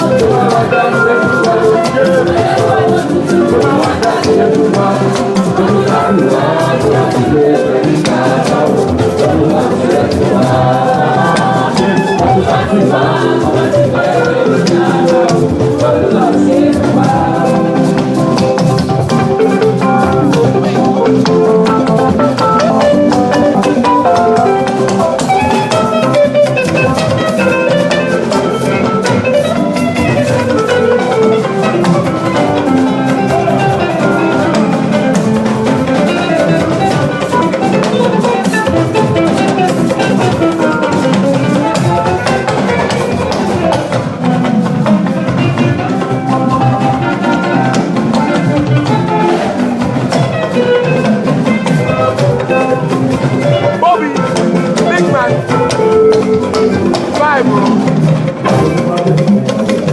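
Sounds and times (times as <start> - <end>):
drum kit beat: 0.0 - 59.9
loud live music: 0.0 - 59.9.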